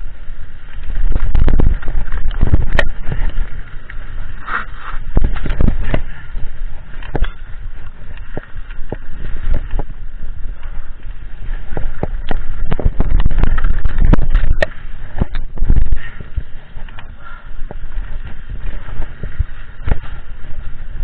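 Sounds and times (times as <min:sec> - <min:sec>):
wind buffeting microphone: 0:00.0 - 0:21.0
mountain bike rattling and knocking: 0:00.8 - 0:04.3, 0:05.0 - 0:21.0.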